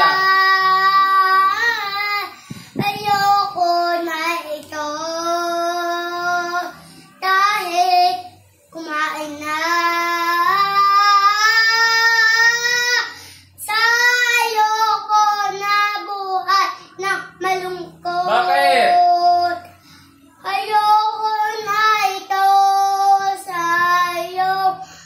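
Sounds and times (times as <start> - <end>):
boy singing: 0.0 - 19.7, 20.4 - 24.8.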